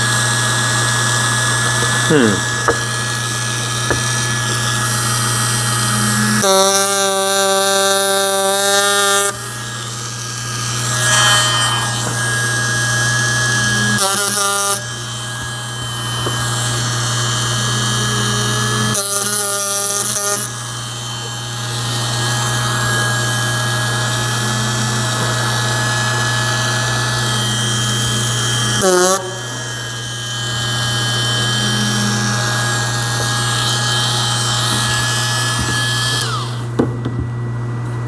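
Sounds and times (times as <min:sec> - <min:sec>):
power carver buzzing into wood: 0:00.0 - 0:36.9.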